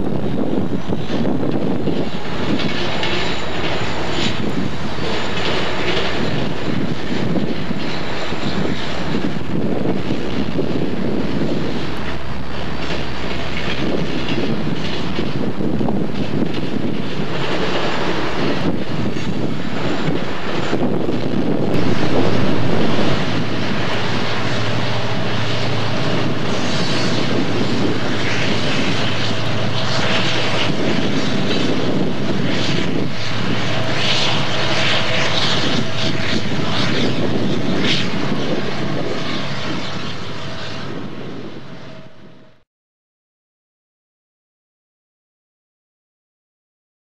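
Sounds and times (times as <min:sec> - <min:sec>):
diesel locomotive running: 0:00.0 - 0:42.6
train rolling past: 0:00.0 - 0:42.6
wheels screeching: 0:00.8 - 0:42.4.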